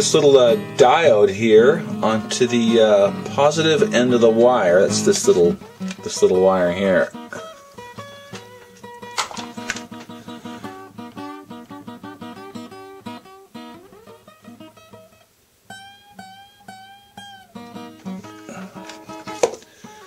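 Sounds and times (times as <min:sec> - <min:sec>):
plucked guitar playing: 0:00.0 - 0:20.0.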